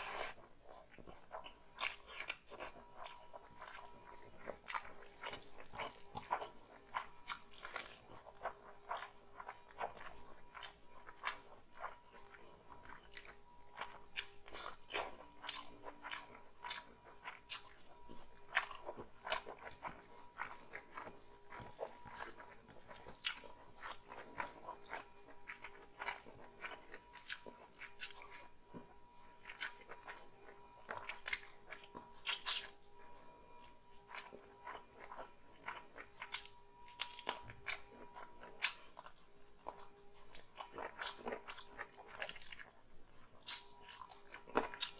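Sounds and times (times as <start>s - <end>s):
faint steady hum: 0.0s - 44.9s
person chewing food: 0.0s - 44.9s.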